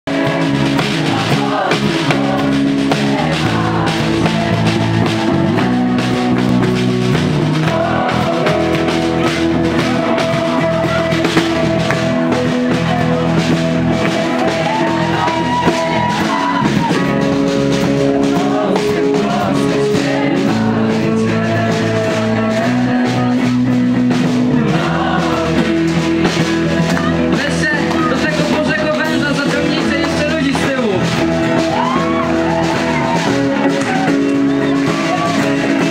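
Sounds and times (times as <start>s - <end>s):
electric bass guitar: 0.0s - 35.9s
person singing: 0.1s - 30.9s, 31.7s - 35.9s
drum kit: 0.1s - 35.9s.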